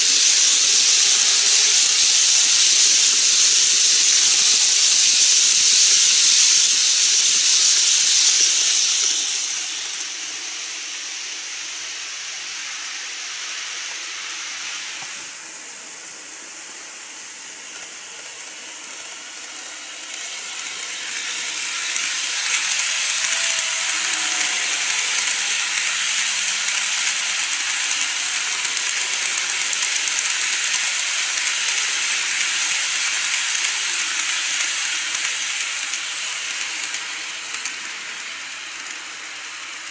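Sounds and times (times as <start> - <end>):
model train wheels rattling: 0.0 - 15.4, 17.2 - 39.9.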